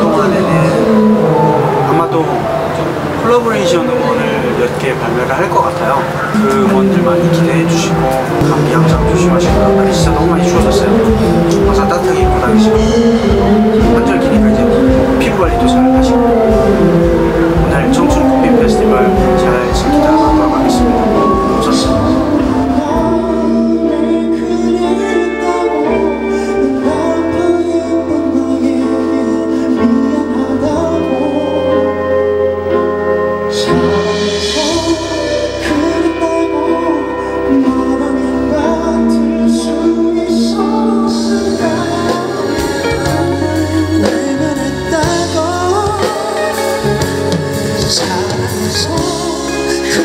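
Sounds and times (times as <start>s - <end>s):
guitar: 0.0s - 50.0s
keyboard: 0.0s - 50.0s
man singing ballad: 0.0s - 50.0s
soft instrumental accompaniment: 0.0s - 50.0s.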